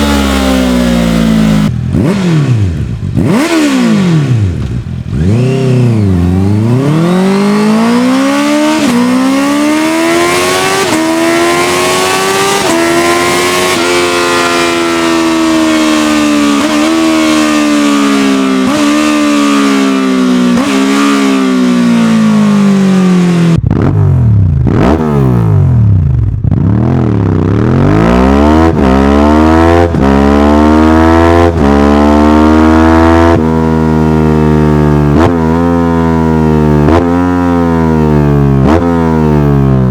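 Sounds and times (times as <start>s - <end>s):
lower-pitched motorcycle revving: 0.0s - 39.9s
motorcycle accelerating: 0.0s - 39.9s.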